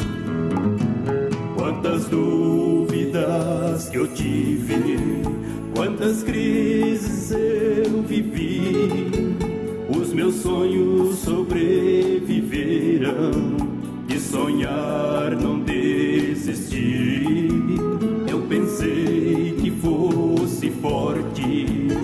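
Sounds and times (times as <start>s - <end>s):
instrumental backing: 0.0s - 22.0s
person singing gospel song: 1.6s - 22.0s.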